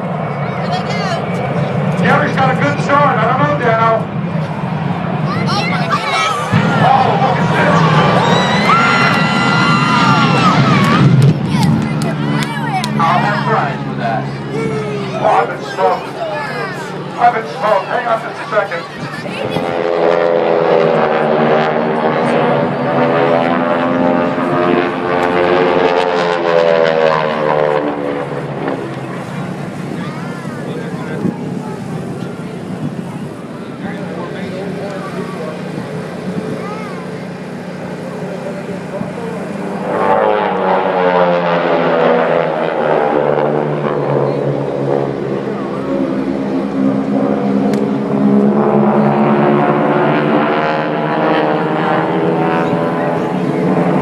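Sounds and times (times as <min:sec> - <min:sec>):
propeller aircraft flying past: 0:00.0 - 0:54.0.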